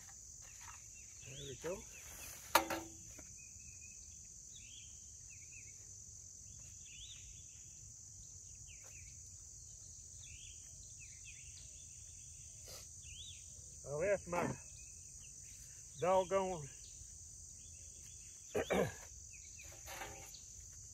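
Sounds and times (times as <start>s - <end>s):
insect chirps: 0.0s - 20.9s
insects droning: 0.0s - 20.9s.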